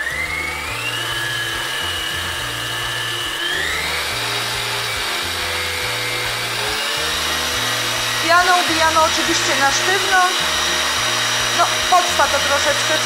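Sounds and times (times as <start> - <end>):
stand mixer motor whine: 0.0 - 13.0.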